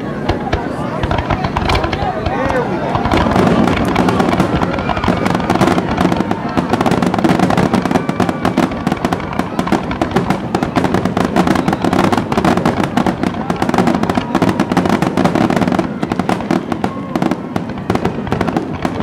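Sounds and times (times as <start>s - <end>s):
fireworks crackling: 0.0s - 19.0s
fireworks shells bursting: 0.0s - 19.0s.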